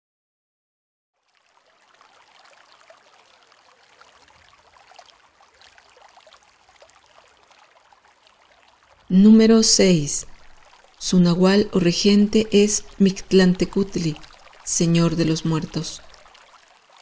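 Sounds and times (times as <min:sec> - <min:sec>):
faint rain patter: 0:01.2 - 0:17.0.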